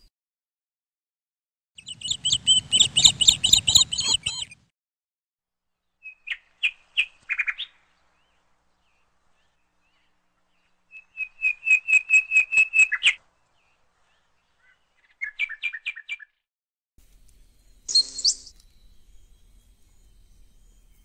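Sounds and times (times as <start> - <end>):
bird chirping: 1.8 - 4.7, 5.8 - 16.4, 17.0 - 21.0.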